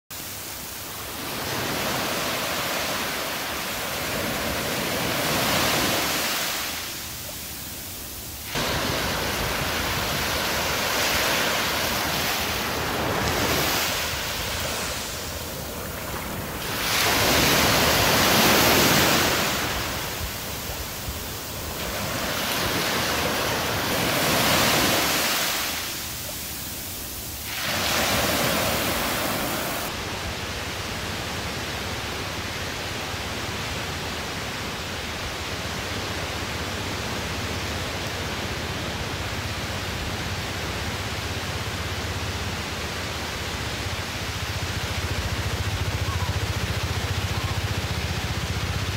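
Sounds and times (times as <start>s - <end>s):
small waves breaking on beach: 0.1s - 48.9s.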